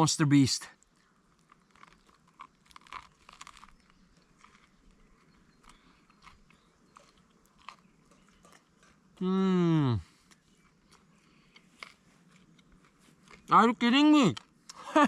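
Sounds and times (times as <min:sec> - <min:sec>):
person chewing and crunching food: 0:00.8 - 0:09.3, 0:10.0 - 0:13.5, 0:14.3 - 0:14.8.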